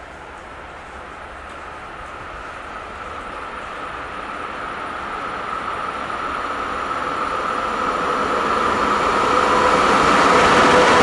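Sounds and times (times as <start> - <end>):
electric locomotive whine: 0.0 - 11.0.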